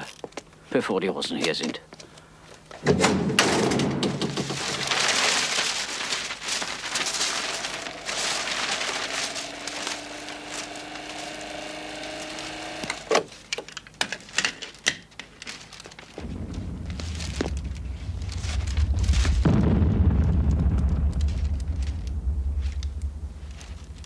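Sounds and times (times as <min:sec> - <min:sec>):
paper sheets scattering: 0:02.8 - 0:24.0
papers landing thud: 0:02.8 - 0:24.0.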